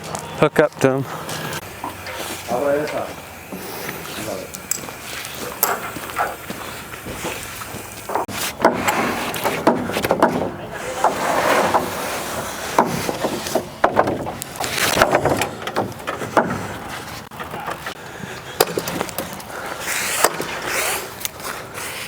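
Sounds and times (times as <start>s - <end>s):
wooden beams knocking and scraping: 1.3s - 19.5s.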